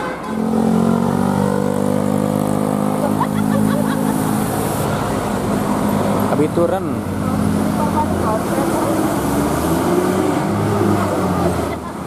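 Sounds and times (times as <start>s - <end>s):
bus diesel engine passing: 0.0s - 12.0s.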